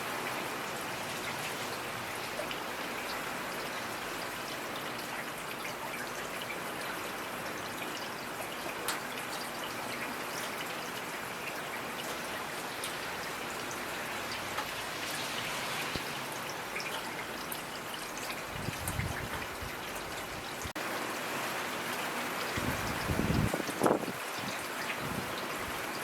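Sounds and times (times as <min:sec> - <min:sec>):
steady rain hiss: 0:00.0 - 0:26.0
raindrops pattering: 0:00.1 - 0:26.0.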